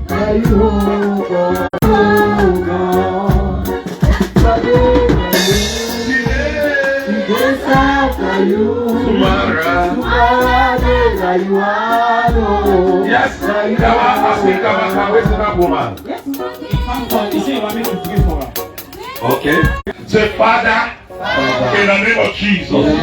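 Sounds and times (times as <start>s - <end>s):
people singing worship music: 0.0s - 18.4s
band with steady beat and bass: 0.0s - 20.0s.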